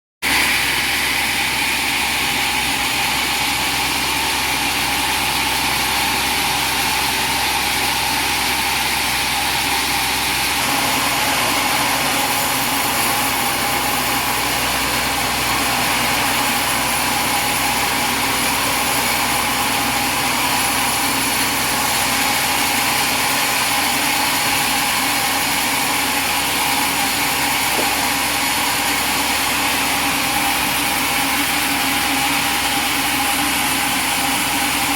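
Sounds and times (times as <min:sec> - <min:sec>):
portable sawmill running: 0:00.2 - 0:34.9.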